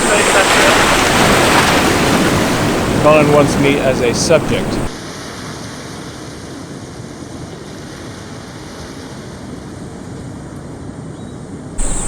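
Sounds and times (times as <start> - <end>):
ocean surf: 0.0 - 9.6, 11.8 - 12.0.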